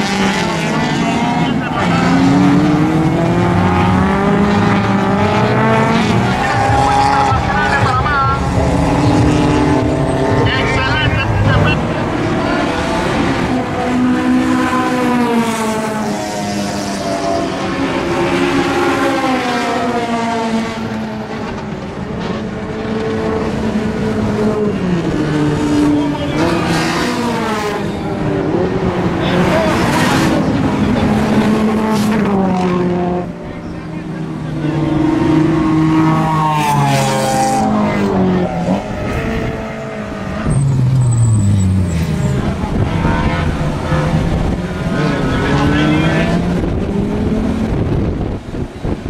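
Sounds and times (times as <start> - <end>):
racing car engines at high revs: 0.0 - 49.0.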